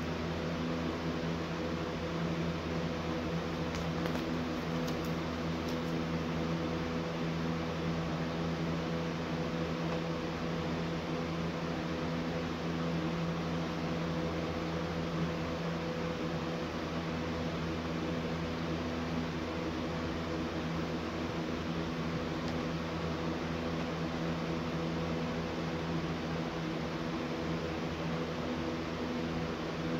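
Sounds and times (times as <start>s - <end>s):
appliance electric hum: 0.0s - 29.9s.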